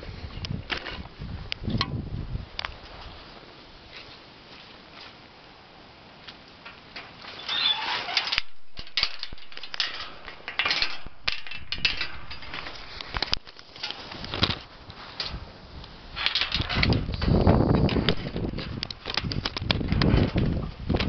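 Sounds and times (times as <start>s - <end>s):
quiet hiss: 0.0s - 19.1s.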